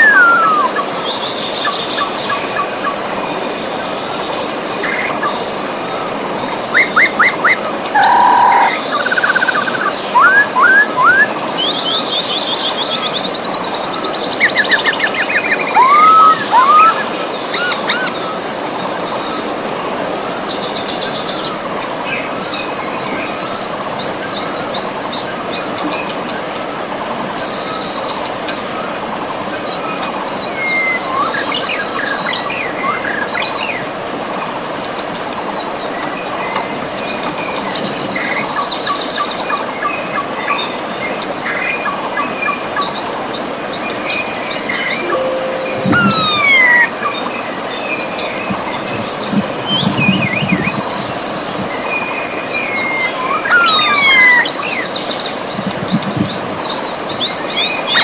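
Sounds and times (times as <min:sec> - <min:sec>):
birds singing: 0:00.0 - 0:33.8, 0:35.1 - 0:58.0
river water rushing: 0:00.0 - 0:49.8.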